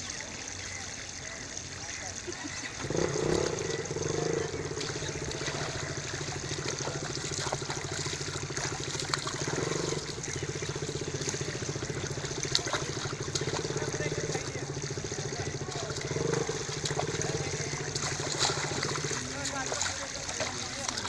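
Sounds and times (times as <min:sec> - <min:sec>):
river water trickling: 0:00.0 - 0:21.0
small water splashes: 0:00.0 - 0:21.0
low motor drone: 0:02.7 - 0:21.0.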